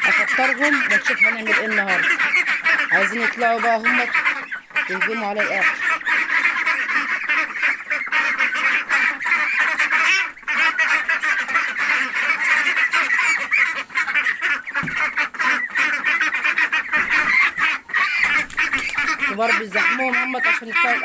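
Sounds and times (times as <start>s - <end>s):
poultry flock calling loudly: 0.0s - 21.0s.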